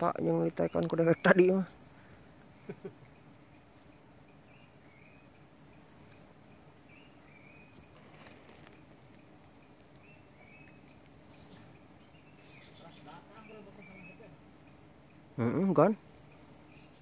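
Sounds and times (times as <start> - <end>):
insect chorus trilling: 0.0 - 17.0
short high insect chirps: 0.6 - 17.0.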